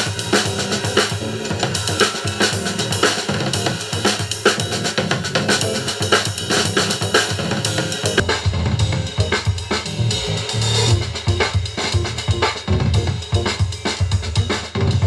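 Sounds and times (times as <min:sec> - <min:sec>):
instrumental music with drum beat: 0:00.0 - 0:15.0.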